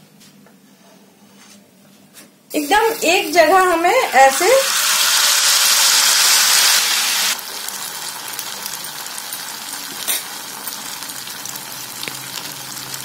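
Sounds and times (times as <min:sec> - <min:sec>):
batter sizzling in hot ghee: 0:02.5 - 0:13.0
small crackles of frying: 0:02.5 - 0:13.0.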